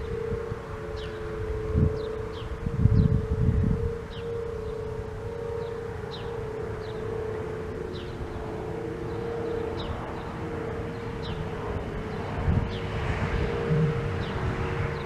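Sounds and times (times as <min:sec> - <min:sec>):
low wind rumble: 0:00.0 - 0:15.0
warning siren steady tone: 0:00.0 - 0:15.0.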